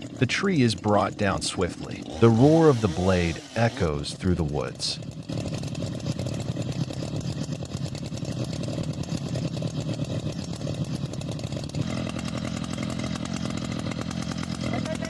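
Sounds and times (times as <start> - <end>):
chainsaw cutting at high revs: 0.0 - 15.0.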